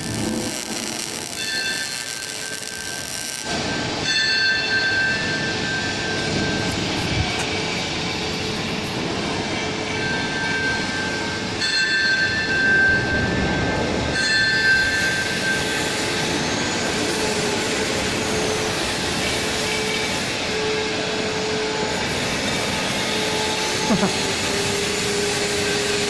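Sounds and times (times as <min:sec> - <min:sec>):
high-pitched machine whine: 0:00.0 - 0:11.6, 0:12.9 - 0:26.0
industrial machinery noise: 0:00.0 - 0:11.8, 0:13.0 - 0:26.0.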